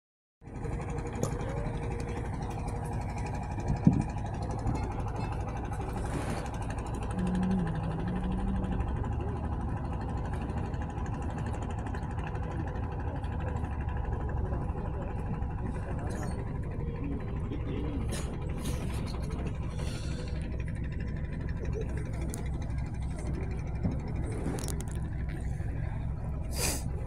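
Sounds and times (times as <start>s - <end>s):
motorboat engine running: 0.4s - 27.0s.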